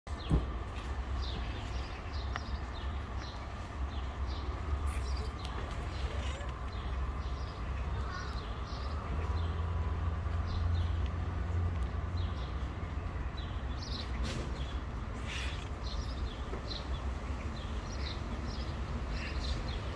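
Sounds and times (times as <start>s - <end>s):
small birds chirping: 0.1s - 19.9s.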